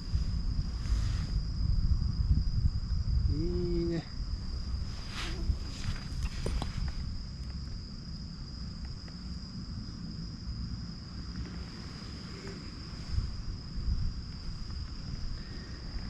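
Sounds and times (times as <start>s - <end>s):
insects trilling: 0.0s - 16.0s
low rumble: 0.0s - 16.0s.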